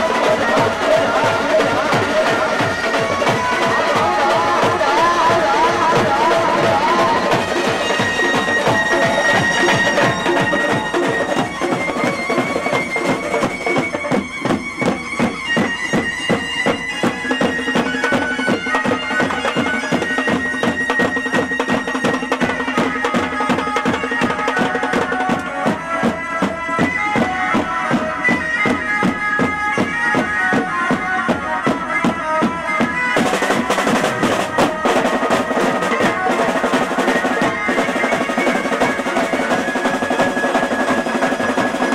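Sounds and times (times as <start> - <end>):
fast steady drum beat: 0.0 - 41.9
reedy bagpipe-like melody: 0.0 - 41.9.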